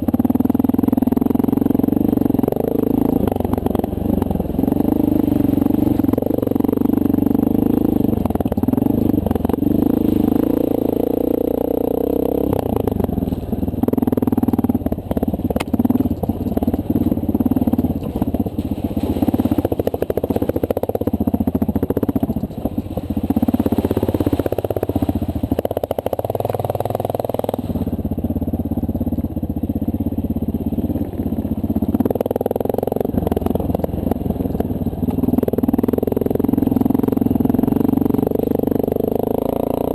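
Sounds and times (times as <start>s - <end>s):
motorcycle rattles and knocks: 0.0s - 39.8s
motorcycle engine running: 0.0s - 39.9s.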